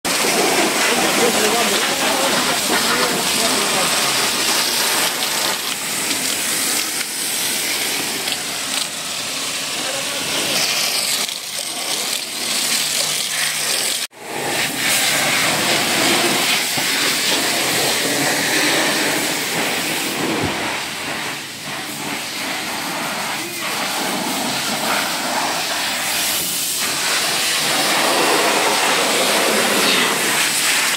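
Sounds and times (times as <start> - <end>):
foam lance spraying hiss: 0.1 - 30.9.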